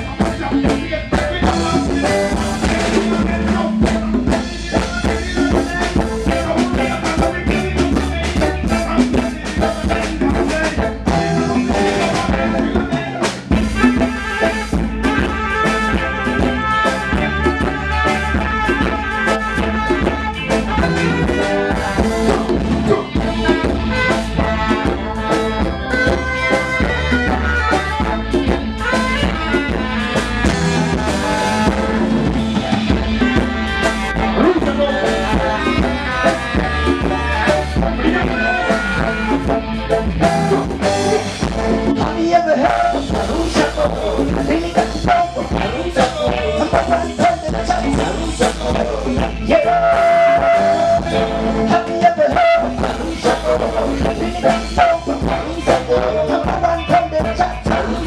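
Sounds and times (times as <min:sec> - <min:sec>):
reggae band playing: 0:00.0 - 0:58.0
saxophone melody: 0:00.0 - 0:58.0.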